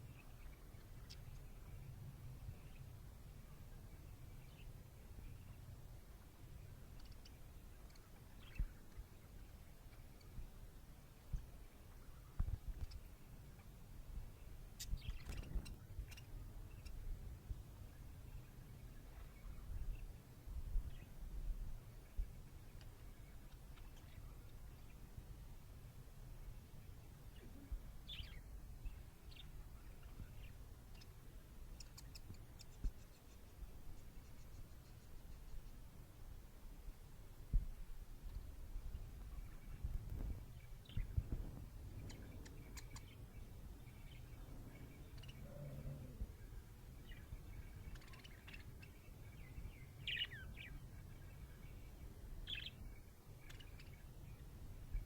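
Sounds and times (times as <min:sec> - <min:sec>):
low background rumble: 0:00.1 - 0:55.0.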